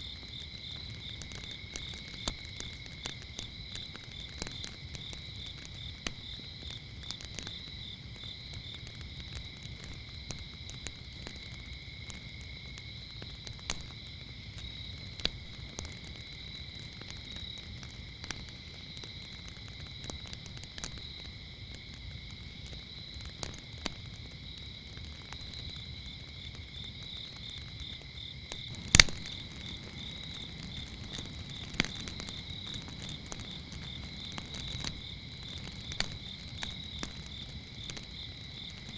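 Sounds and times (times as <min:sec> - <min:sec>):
crickets trilling: 0:00.0 - 0:38.9
low fire hiss: 0:00.0 - 0:38.9
wood fire crackling and popping: 0:00.0 - 0:38.9.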